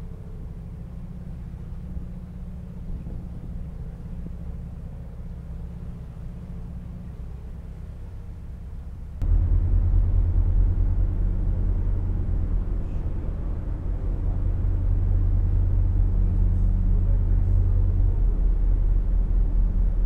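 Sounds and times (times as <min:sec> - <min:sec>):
boat diesel engine running: 0:00.0 - 0:20.0.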